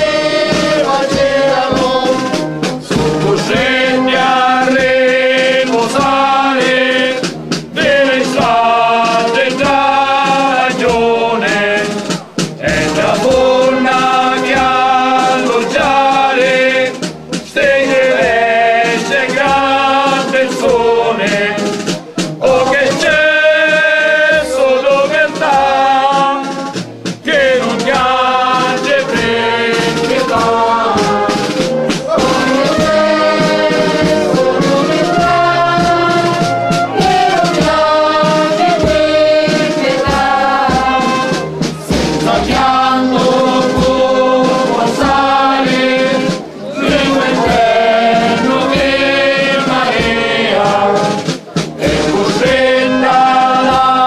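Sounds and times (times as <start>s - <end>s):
voices singing a hymn: 0.0s - 54.0s.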